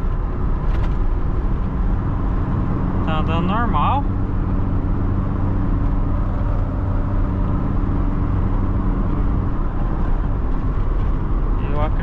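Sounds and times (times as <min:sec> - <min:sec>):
car engine running: 0:00.0 - 0:12.0
road noise inside car: 0:00.0 - 0:12.0.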